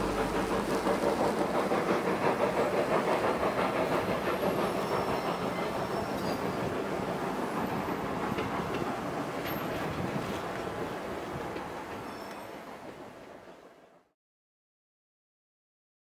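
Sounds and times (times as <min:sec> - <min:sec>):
steam locomotive pulsing exhaust: 0:00.0 - 0:13.9
train wheels rolling: 0:00.0 - 0:13.9.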